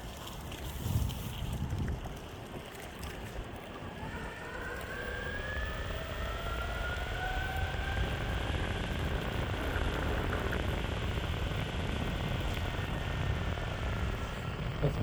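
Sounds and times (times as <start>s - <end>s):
wheels rumbling on road: 0.0s - 15.0s
wind: 0.0s - 15.0s
electric skateboard motors whining: 0.2s - 15.0s.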